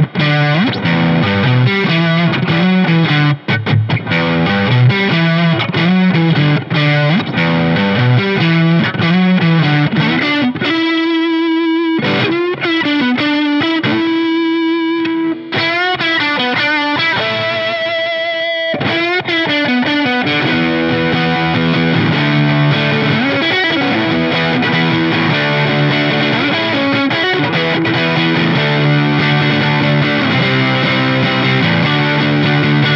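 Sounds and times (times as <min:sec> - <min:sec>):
distorted electric guitar playing: 0:00.0 - 0:32.9.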